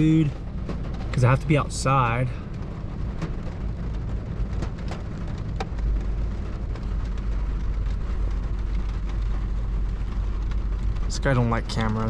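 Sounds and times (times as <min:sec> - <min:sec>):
low rumble: 0:00.0 - 0:12.0
rain on car roof: 0:00.0 - 0:12.0.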